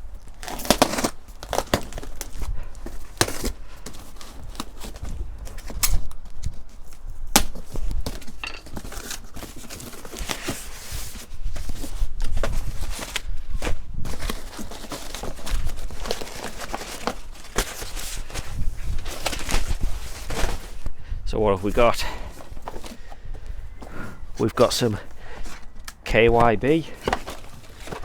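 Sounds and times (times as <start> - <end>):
cardboard packaging rustling: 0.0 - 20.9, 21.5 - 28.0.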